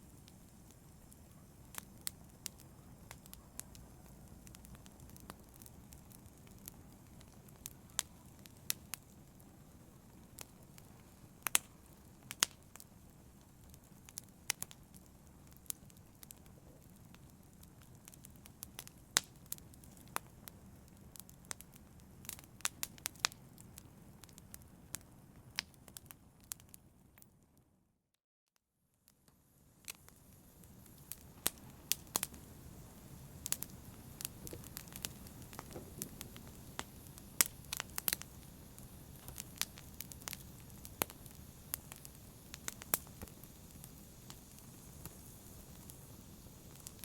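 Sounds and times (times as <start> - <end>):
wood fire crackling and popping: 0.0 - 27.3, 29.3 - 47.0.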